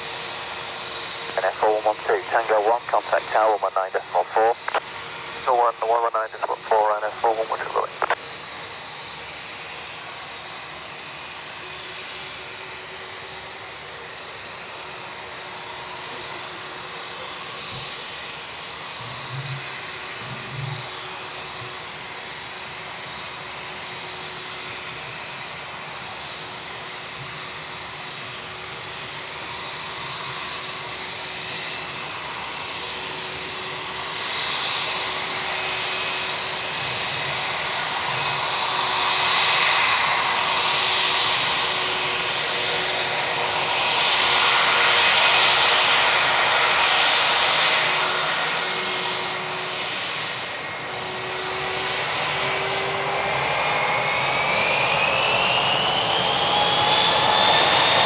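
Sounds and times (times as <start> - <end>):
jet engines humming and whining: 0.0 - 58.0.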